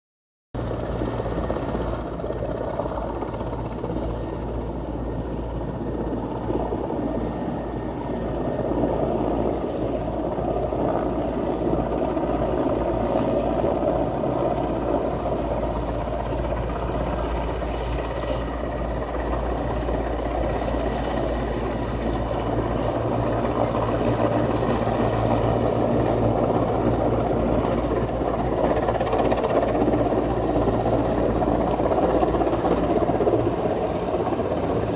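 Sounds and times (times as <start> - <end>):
helicopter rotors and turbines: 0.6 - 34.9.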